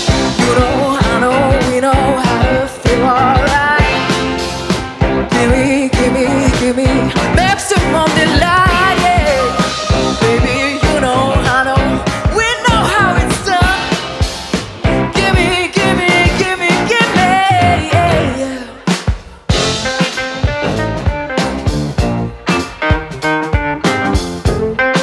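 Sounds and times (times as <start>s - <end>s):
drum kit beating: 0.0s - 25.0s
electric guitar: 0.0s - 25.0s
keyboards: 0.0s - 25.0s
live rock band playing: 0.0s - 25.0s.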